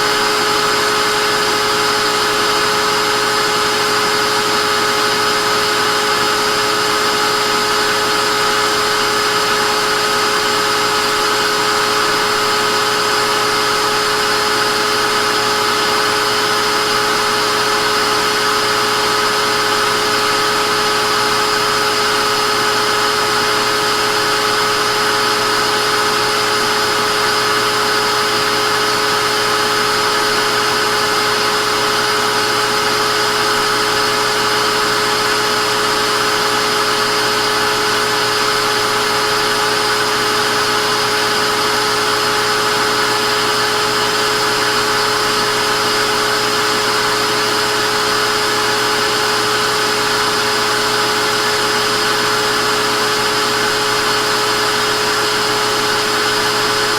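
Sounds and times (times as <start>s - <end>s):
vacuum cleaner motor whine: 0.0s - 56.9s.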